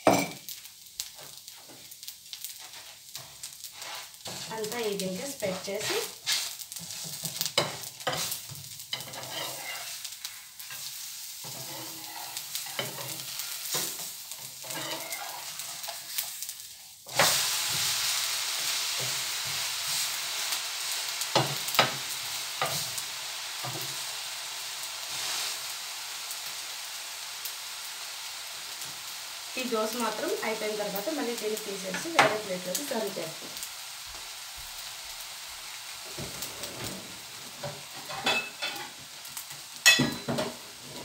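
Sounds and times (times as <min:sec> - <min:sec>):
loud sizzle on a hot pan: 0:00.0 - 0:41.0.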